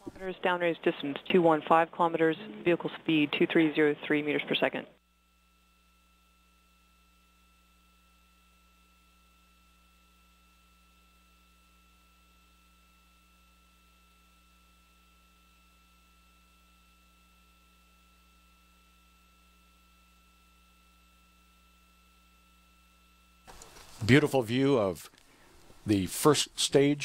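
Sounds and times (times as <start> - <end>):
electrical hum and hiss: 0.0 - 27.0.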